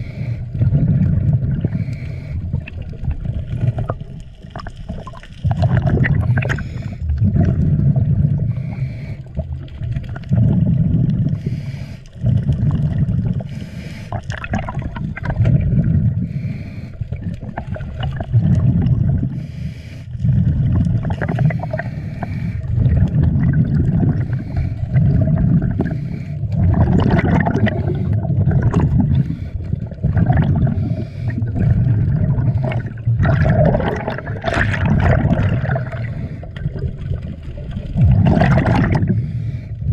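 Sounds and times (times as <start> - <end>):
exhaled bubbles rumbling: 0.0 - 39.9.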